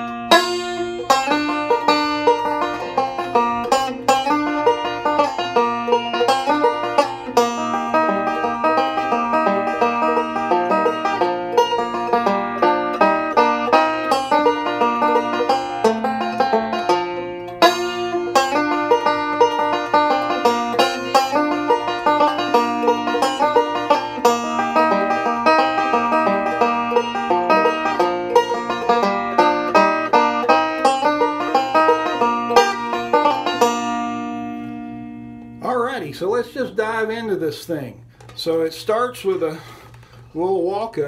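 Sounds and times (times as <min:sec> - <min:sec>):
banjo picked in rolls: 0:00.0 - 0:37.7.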